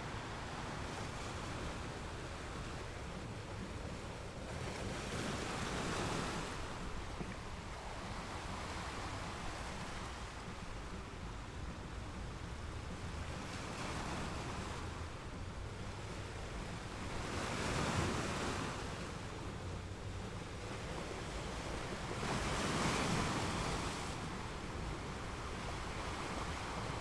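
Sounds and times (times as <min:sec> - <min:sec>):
ocean waves washing: 0:00.0 - 0:27.0.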